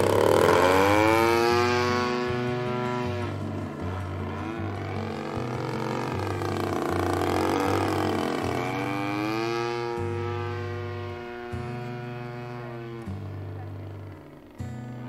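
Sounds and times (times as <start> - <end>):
model airplane engine passing: 0.0 - 15.0.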